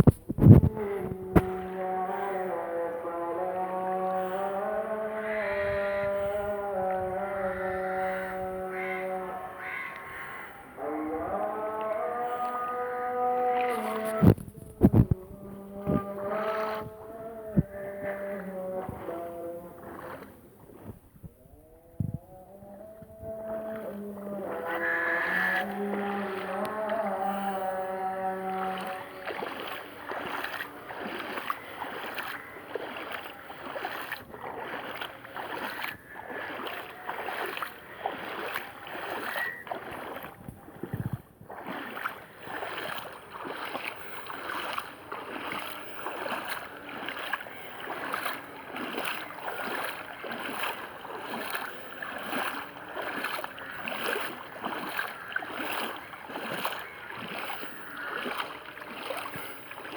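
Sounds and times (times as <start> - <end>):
wading through water sloshing: 0.0 - 59.9.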